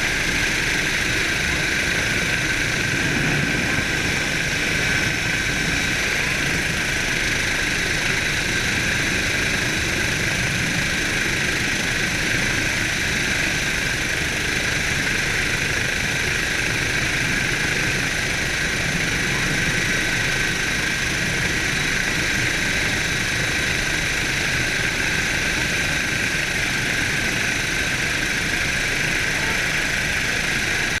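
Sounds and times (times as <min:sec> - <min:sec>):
helicopter turbine whine and rotor: 0:00.0 - 0:31.0.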